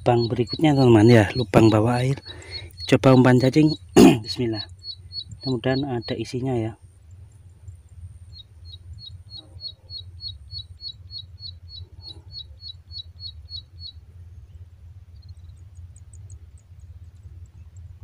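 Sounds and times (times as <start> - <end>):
low steady rumble: 0.0 - 18.0
small bird chirping: 0.0 - 18.0.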